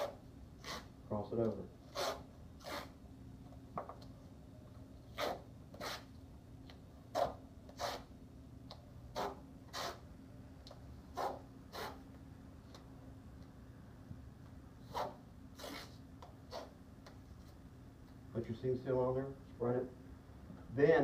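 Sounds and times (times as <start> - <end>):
faint room hum: 0.0 - 21.0.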